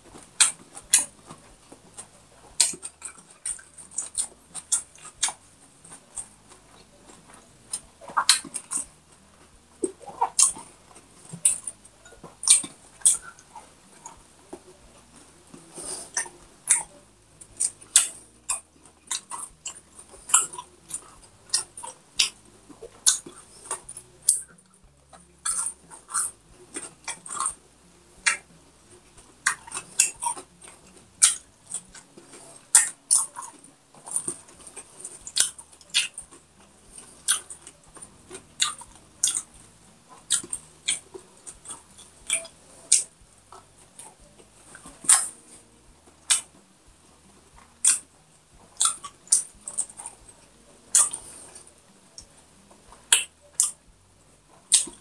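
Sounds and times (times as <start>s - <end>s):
crunchy chewing: 0.0s - 55.0s
wet mouth sounds: 0.2s - 46.6s, 47.4s - 53.9s, 54.7s - 55.0s.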